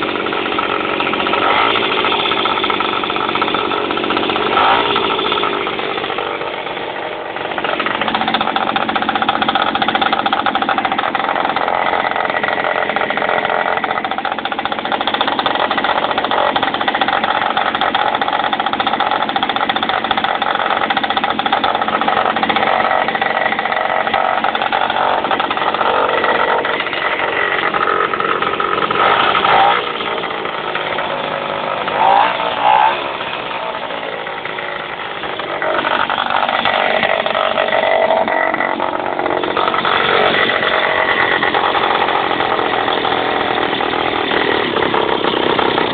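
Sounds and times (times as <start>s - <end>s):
two-stroke moped engine running: 0.0s - 45.9s.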